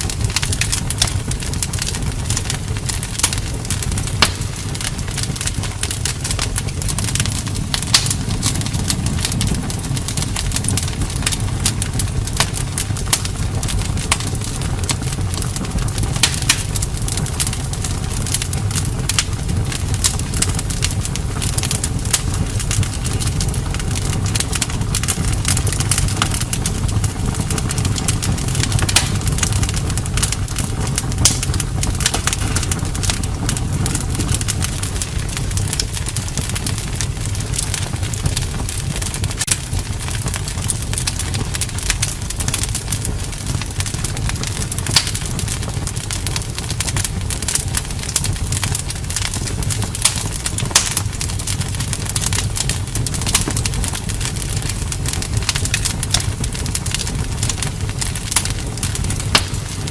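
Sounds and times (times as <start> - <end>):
campfire crackling: 0.0 - 59.9.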